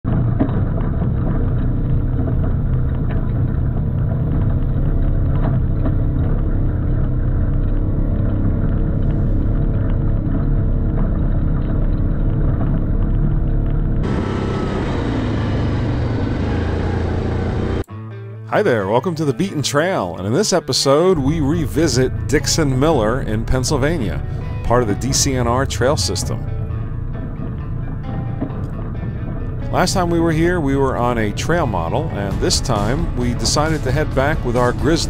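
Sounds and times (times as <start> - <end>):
vehicle engines running: 0.0 - 17.9, 20.3 - 35.0.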